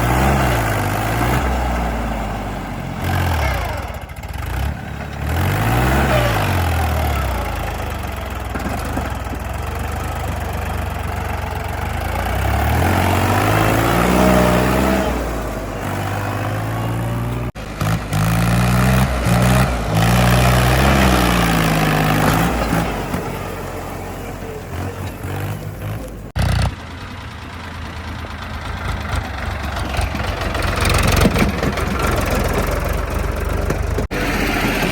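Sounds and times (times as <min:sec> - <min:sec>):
heavy diesel engines revving: 0:00.0 - 0:34.9.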